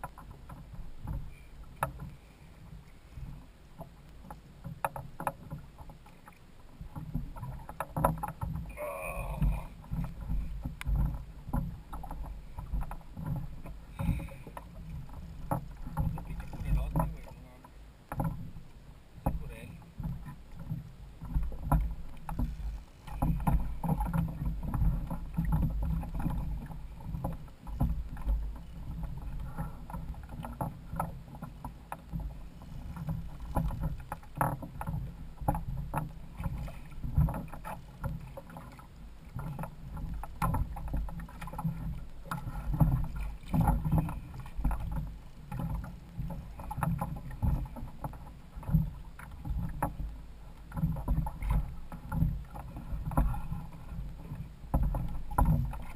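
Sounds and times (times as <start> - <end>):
water lapping against kayak hull: 0.0 - 55.9
knocks and splashes: 3.8 - 18.6, 19.2 - 55.9.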